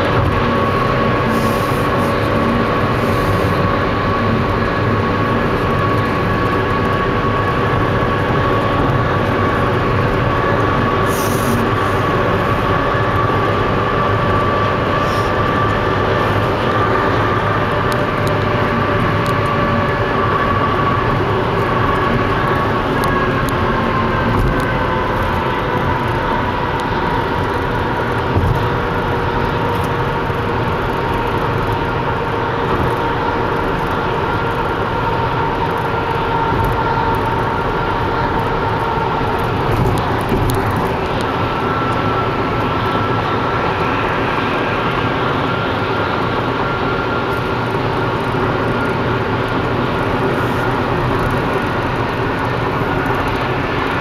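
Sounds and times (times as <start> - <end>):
faint engine drone: 0.0 - 54.0
road and tyre noise: 0.0 - 54.0.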